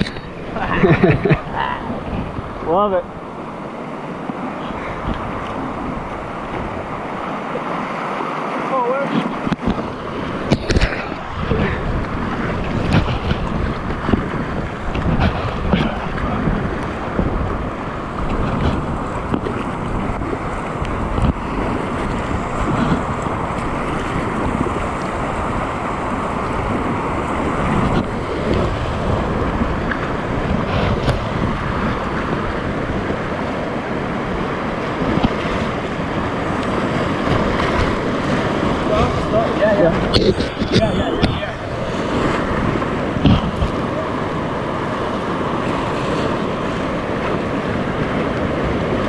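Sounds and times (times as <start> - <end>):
waves splashing over bow: 0.0 - 49.0
whitewater rapids rushing: 0.0 - 49.0
wind buffeting microphone: 0.0 - 49.0.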